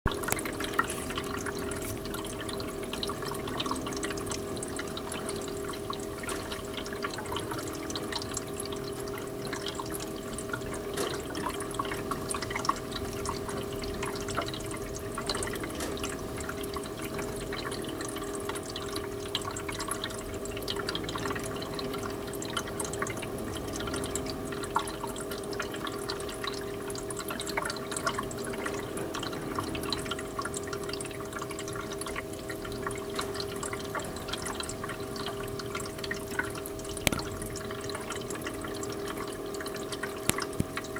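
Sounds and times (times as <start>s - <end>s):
water dripping: 0.1s - 40.9s.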